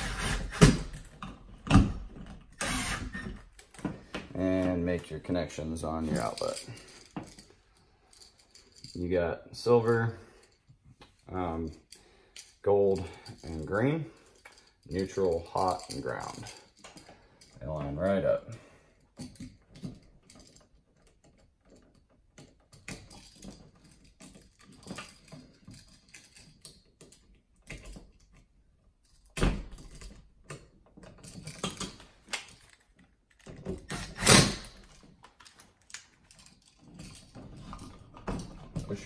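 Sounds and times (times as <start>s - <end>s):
tools clicking and scraping on outlet: 0.0s - 39.0s.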